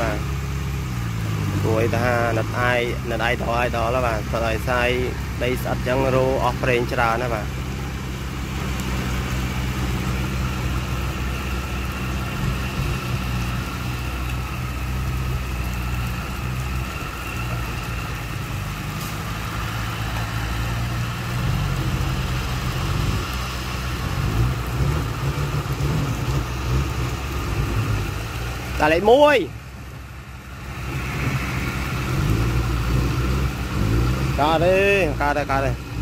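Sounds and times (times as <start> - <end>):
diesel engine low drone: 0.0 - 36.0.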